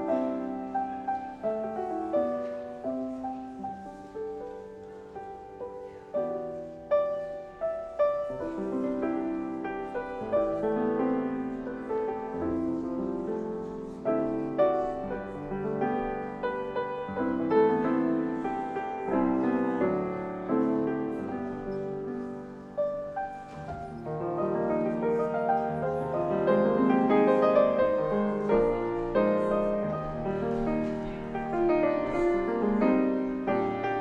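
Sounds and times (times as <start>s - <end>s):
slow solo piano piece: 0.0s - 34.0s.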